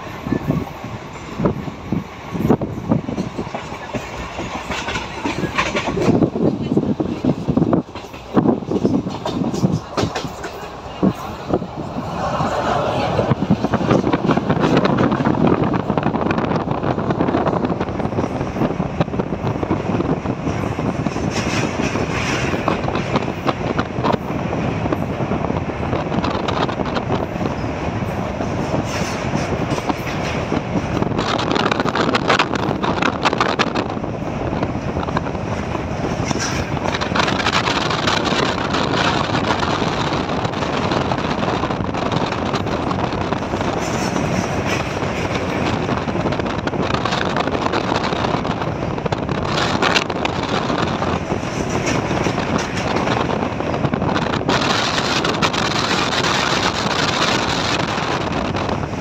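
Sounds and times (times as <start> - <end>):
train rumbling over bridge: 0.0 - 59.0.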